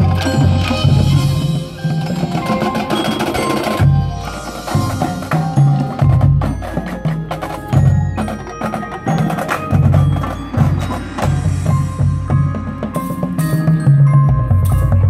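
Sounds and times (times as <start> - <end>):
drum strikes: 0.0 - 15.0
mallet keyboards: 0.0 - 15.0
marching band playing: 0.0 - 15.0.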